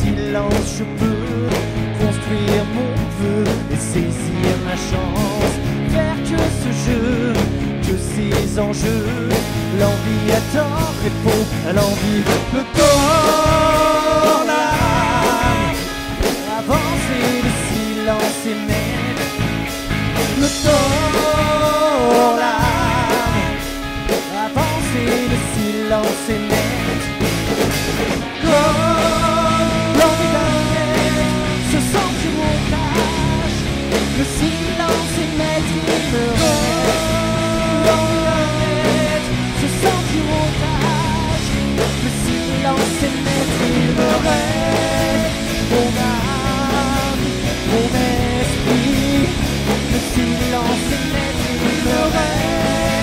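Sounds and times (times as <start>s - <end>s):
man singing: 0.0s - 19.6s, 20.2s - 27.4s, 28.2s - 53.0s
rock band playing: 0.0s - 53.0s.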